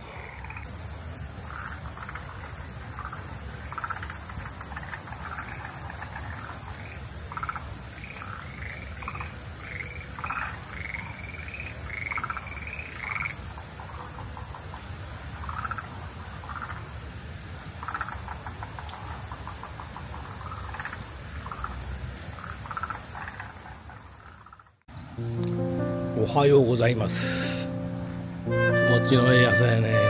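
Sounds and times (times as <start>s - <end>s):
frogs croaking: 0.0s - 24.8s.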